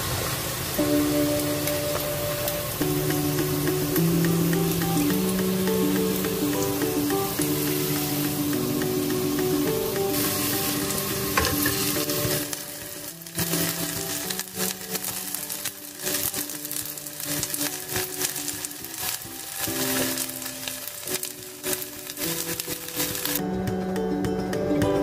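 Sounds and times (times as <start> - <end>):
chicken sizzling in oil: 0.0 - 23.4
background music: 0.7 - 25.0.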